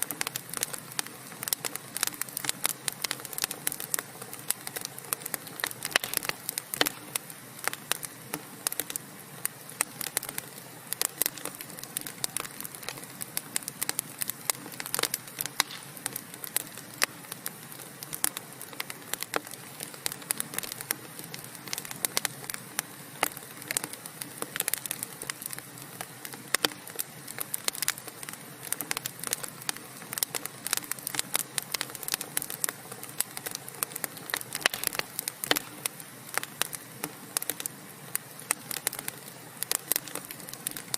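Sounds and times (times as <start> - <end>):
low hiss of flames: 0.0 - 40.9
sharp pops and snaps: 0.0 - 40.9
wood fire crackling: 0.0 - 40.9.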